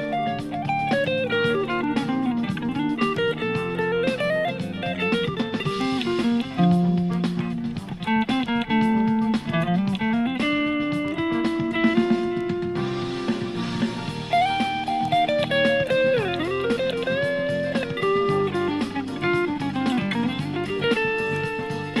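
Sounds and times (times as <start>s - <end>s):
electric guitar lead: 0.0s - 22.0s.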